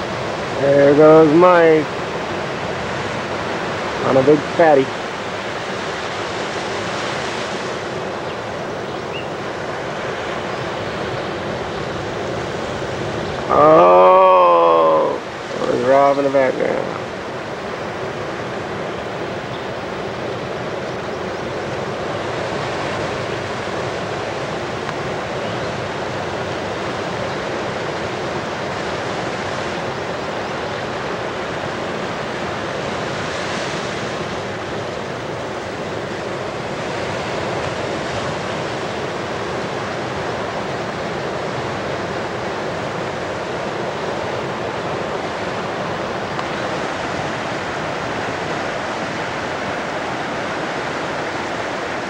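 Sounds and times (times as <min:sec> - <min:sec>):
ocean waves breaking: 0:00.0 - 0:52.0.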